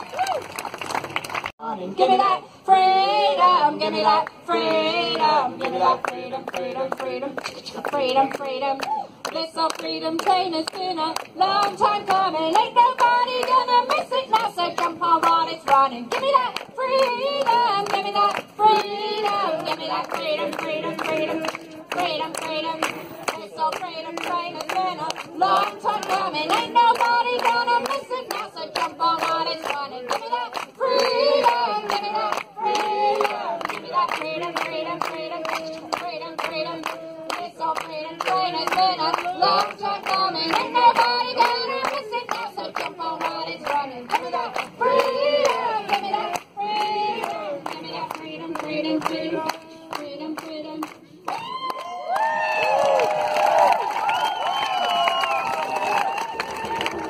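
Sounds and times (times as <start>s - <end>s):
crowd clapping along: 0.0s - 1.6s, 3.8s - 57.0s
voices singing together: 1.6s - 51.3s.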